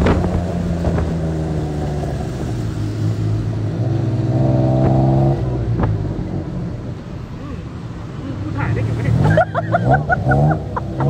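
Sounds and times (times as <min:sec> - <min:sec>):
tuk-tuk engine running: 0:00.0 - 0:11.0.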